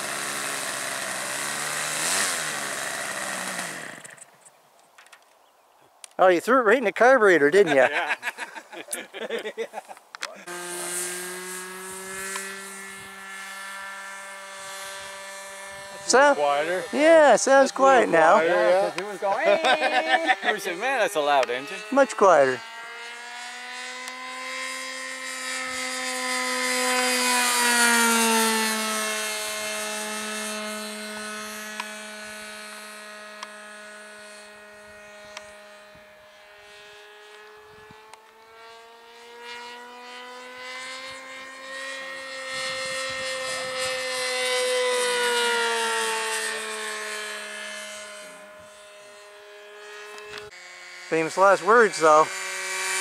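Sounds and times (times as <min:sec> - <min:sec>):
model plane engine passing: 0:00.0 - 0:05.2, 0:06.0 - 0:53.0.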